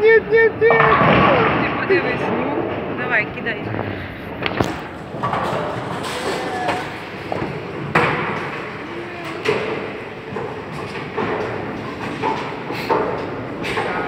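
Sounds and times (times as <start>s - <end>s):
voices in echoing hall: 0.0s - 14.0s
bowling balls knocking pins: 0.7s - 3.0s, 4.4s - 14.0s.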